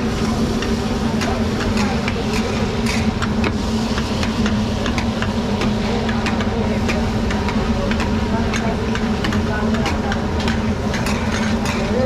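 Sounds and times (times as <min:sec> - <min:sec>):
steady motor drone: 0:00.0 - 0:12.0.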